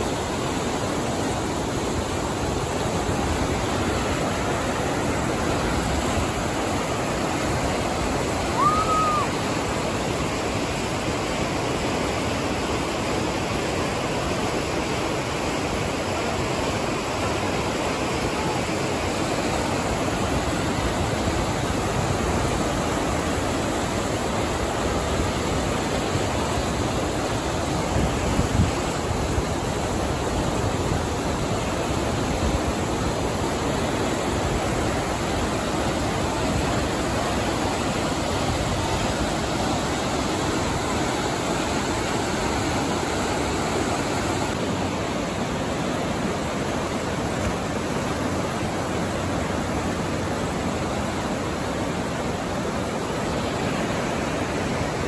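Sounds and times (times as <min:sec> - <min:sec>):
whitewater rapids roaring: 0:00.0 - 0:55.0.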